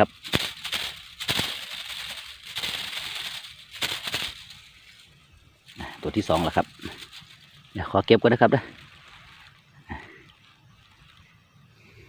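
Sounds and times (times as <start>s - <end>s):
dry rustling and rattling: 0.0s - 11.3s.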